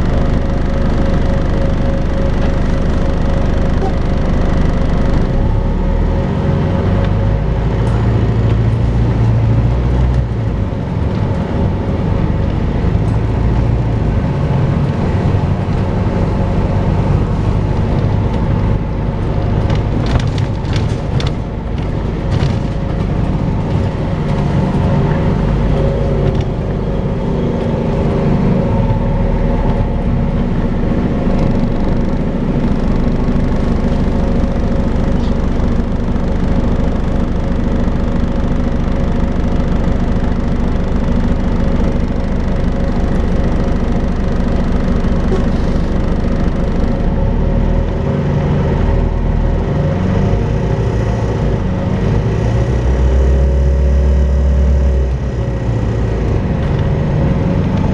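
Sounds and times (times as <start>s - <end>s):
bus engine whine: 0.0s - 57.9s.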